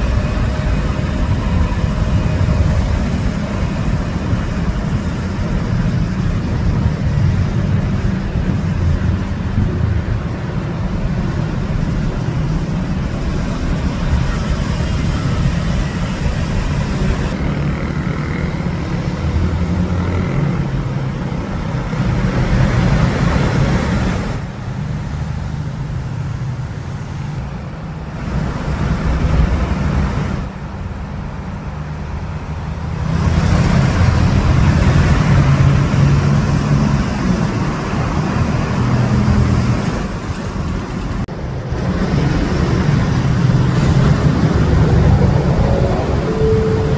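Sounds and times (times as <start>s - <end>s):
traffic engine and road rumble: 0.0s - 46.9s.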